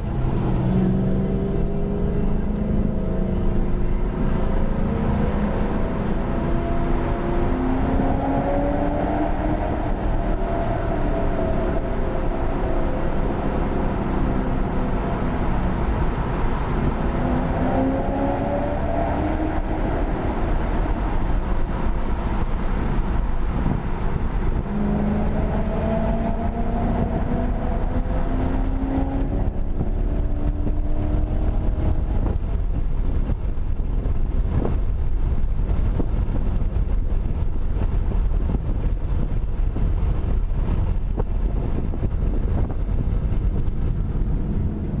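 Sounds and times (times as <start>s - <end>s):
car engine accelerating: 0.0s - 45.0s
road and wind noise: 0.0s - 45.0s.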